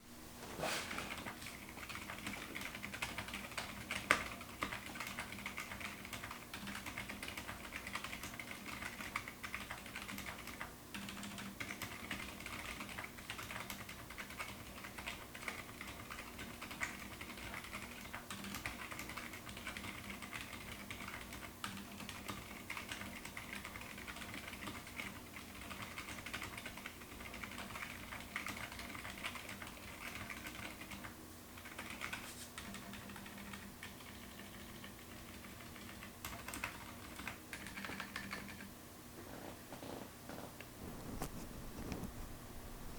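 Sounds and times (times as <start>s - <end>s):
typing on mechanical keyboard: 1.1s - 38.7s.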